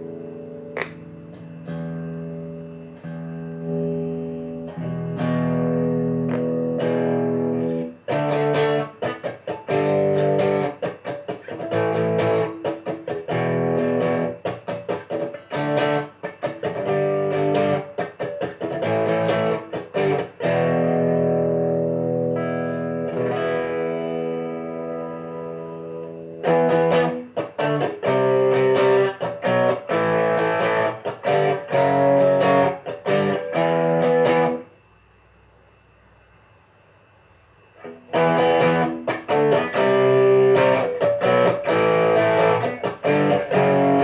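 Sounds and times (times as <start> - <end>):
electric guitar chords and strumming: 0.0 - 34.7, 37.8 - 44.0.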